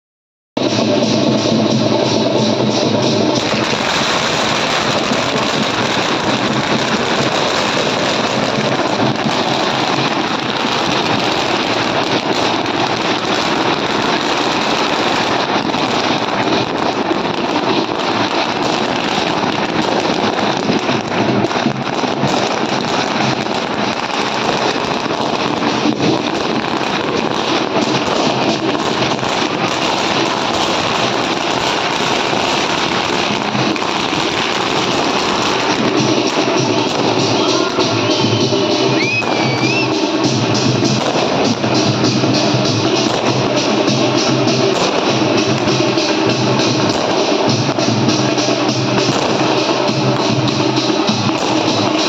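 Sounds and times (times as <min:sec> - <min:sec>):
firecrackers rapid bangs: 0:00.6 - 0:52.0
fireworks: 0:00.6 - 0:52.0.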